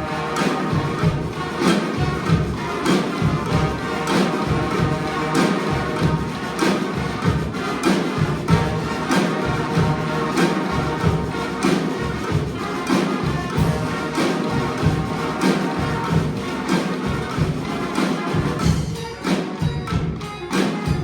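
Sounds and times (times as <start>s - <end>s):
drums beating: 0.0s - 21.0s
horns holding notes: 0.0s - 21.0s.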